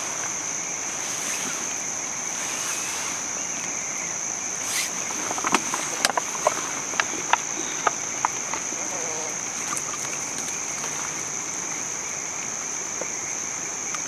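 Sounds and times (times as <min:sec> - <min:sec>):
high-pitched insect trill: 0:00.0 - 0:14.0
rain hiss: 0:00.0 - 0:14.0.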